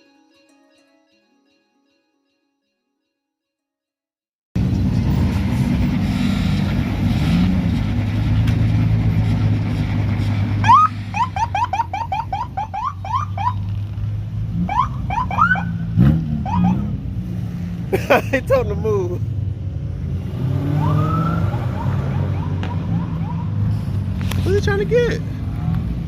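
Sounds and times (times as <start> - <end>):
car engine rumbling: 4.6 - 26.0.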